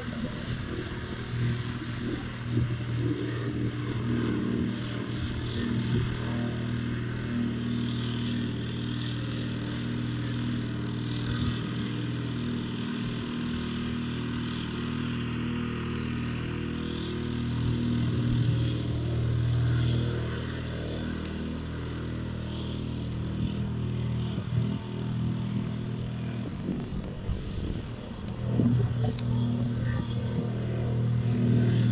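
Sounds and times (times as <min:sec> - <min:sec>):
plate compactor engine running: 0:00.0 - 0:31.9.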